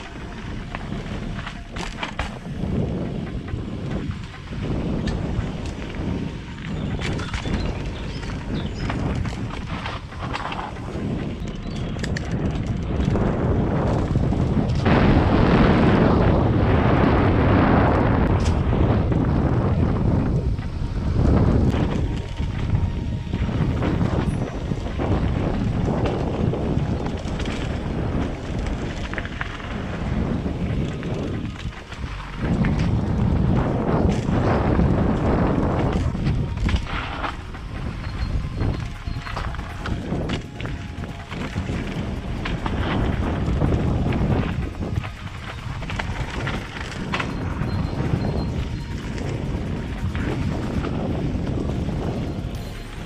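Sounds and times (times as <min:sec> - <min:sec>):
bike frame clicking and rattling: 0:00.0 - 0:14.9, 0:20.5 - 0:53.0
bike tyres rolling over dirt: 0:00.0 - 0:53.0
wind buffeting microphone: 0:00.0 - 0:53.0.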